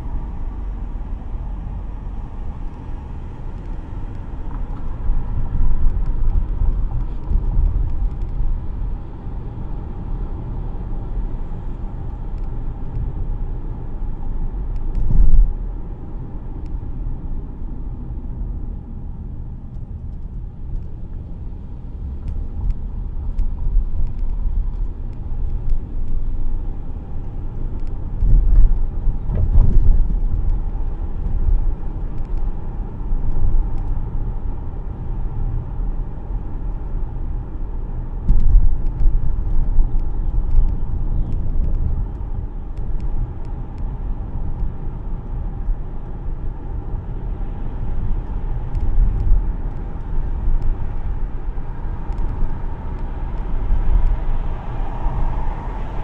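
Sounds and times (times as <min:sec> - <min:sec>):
tyre and engine rumble inside car: 0:00.0 - 0:56.0.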